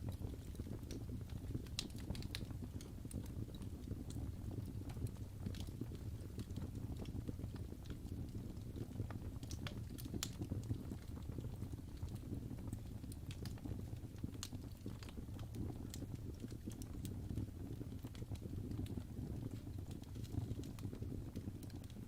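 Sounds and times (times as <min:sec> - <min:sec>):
log fire rumbling: 0:00.0 - 0:22.0
wood crackling and popping: 0:00.0 - 0:22.0.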